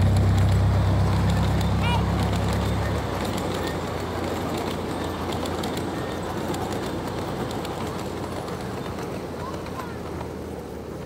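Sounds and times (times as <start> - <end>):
trains rumbling: 0.0 - 11.0.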